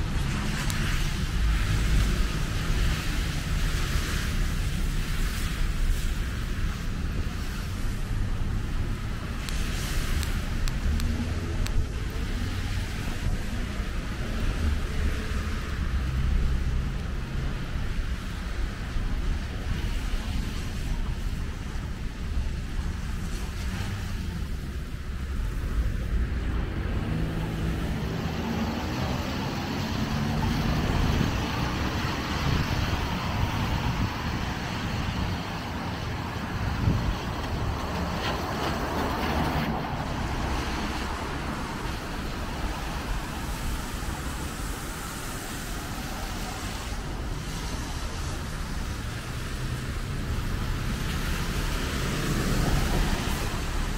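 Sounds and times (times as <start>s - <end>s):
car engines: 0.0s - 53.9s
tyres hissing on wet road: 0.0s - 53.9s.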